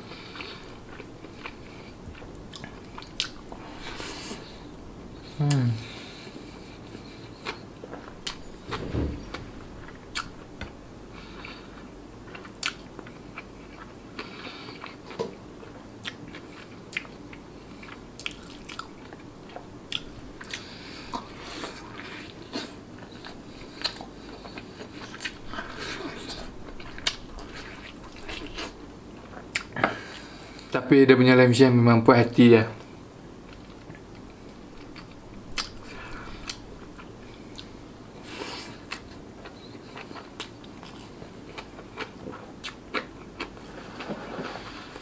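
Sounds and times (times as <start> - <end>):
man chewing with lip smacks: 0.1 - 4.5, 5.2 - 8.7, 9.8 - 30.7, 33.5 - 45.0.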